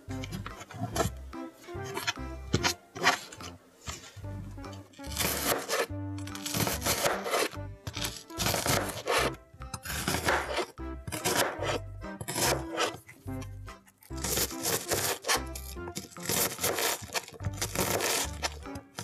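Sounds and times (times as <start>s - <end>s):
background music with beat: 0.0s - 19.0s
knife slicing onion on board: 0.1s - 13.2s, 14.0s - 19.0s.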